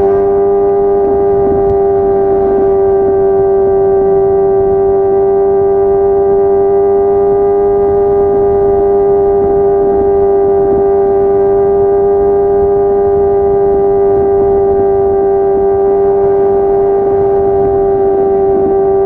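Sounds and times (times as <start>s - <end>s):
motorcycle engine high rpm: 0.0s - 19.0s.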